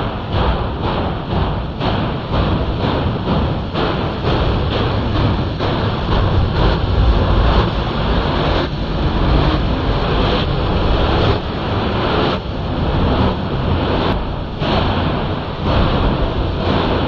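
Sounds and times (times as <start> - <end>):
train running: 0.0 - 17.0
wind on microphone: 0.0 - 17.0.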